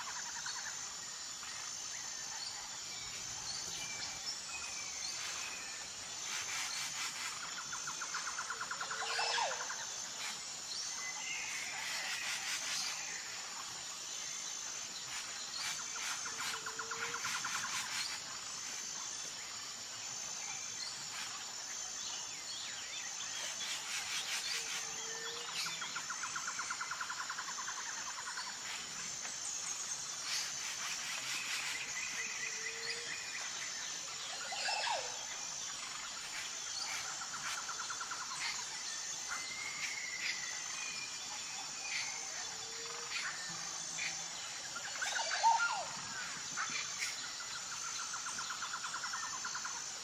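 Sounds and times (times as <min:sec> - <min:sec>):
insects chirping: 0:00.0 - 0:50.0.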